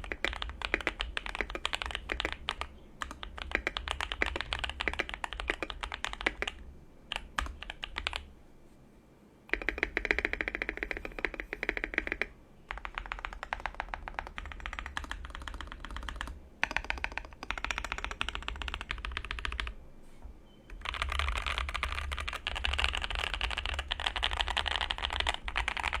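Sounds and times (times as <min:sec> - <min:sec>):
rapid mechanical keyboard typing: 0:00.0 - 0:08.3, 0:09.5 - 0:19.7, 0:20.7 - 0:26.0.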